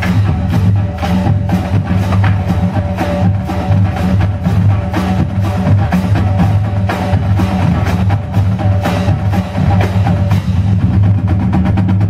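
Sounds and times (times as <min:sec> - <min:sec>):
bass drums: 0:00.0 - 0:12.0
rapid snare drum strokes: 0:00.0 - 0:12.0
tenor drums: 0:00.0 - 0:12.0.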